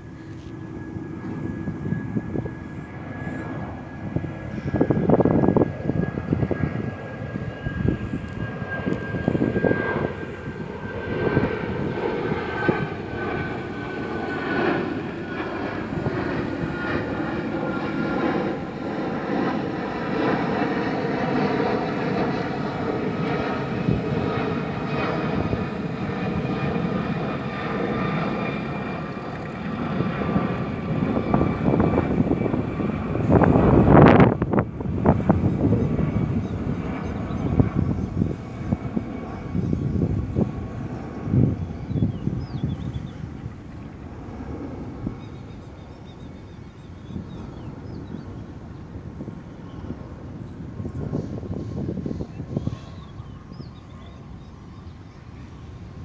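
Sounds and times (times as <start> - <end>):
jet airliner flying overhead: 0.0 - 56.0.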